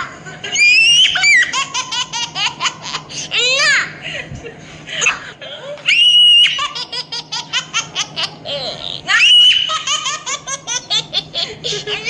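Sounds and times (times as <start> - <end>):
high-pitched laughter: 0.0 - 3.8, 5.9 - 12.0.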